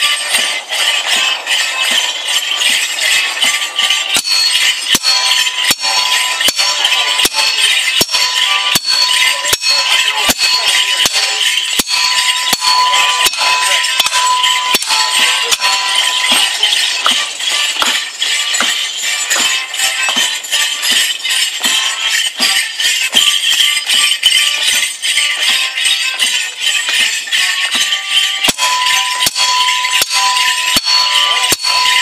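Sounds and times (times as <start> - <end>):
wooden sticks clacking: 0.0 - 32.0.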